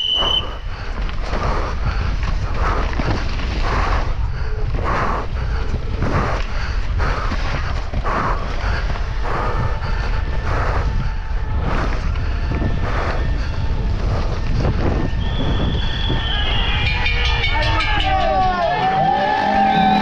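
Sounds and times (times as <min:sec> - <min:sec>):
wind rumble on microphone: 0:00.0 - 0:19.1
bike rattling: 0:00.0 - 0:20.0.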